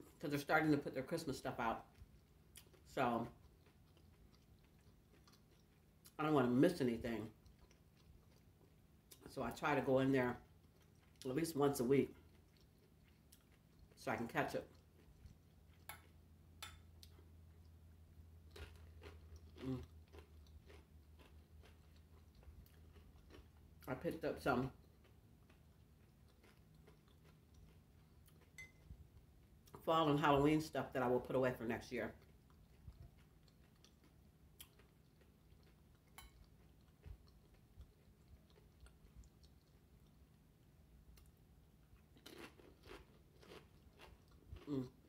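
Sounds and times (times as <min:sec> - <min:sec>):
chewing crunchy chips: 0:01.4 - 0:09.4, 0:10.2 - 0:16.3, 0:16.9 - 0:29.9, 0:32.0 - 0:45.0.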